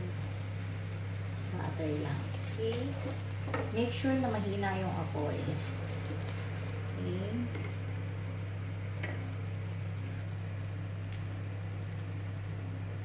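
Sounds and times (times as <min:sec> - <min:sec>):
butter sizzling in frying pan: 0:00.0 - 0:13.0
steady low hum: 0:00.0 - 0:13.0.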